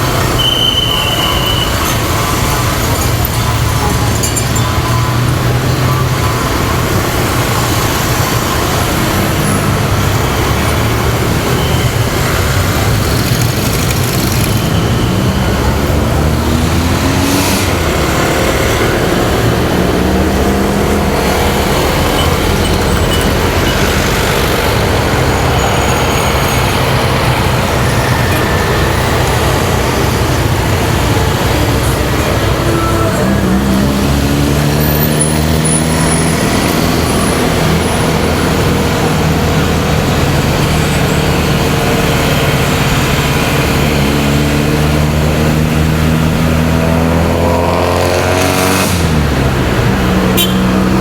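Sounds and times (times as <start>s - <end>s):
road traffic: 0.0s - 51.0s.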